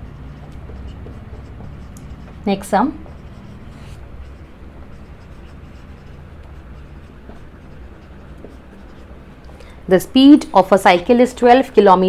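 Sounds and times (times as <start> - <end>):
marker scratching on whiteboard: 0.0 - 12.0
steady low hum: 0.0 - 12.0.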